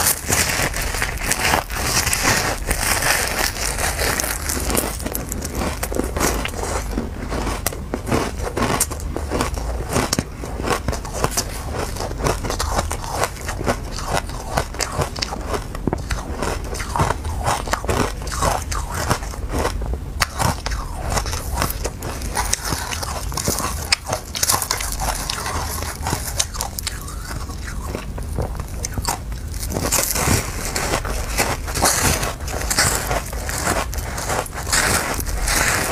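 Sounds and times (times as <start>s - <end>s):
chewing and crunching ice: 0.0s - 35.9s.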